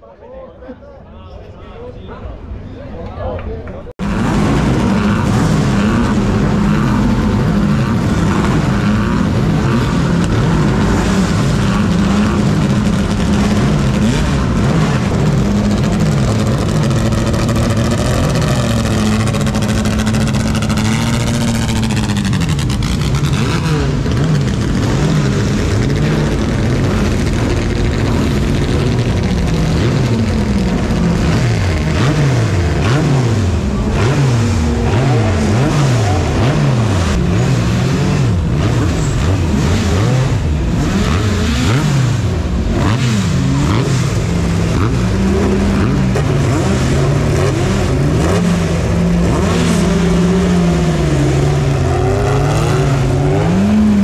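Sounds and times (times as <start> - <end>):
racing car engines revving: 4.0 - 54.0.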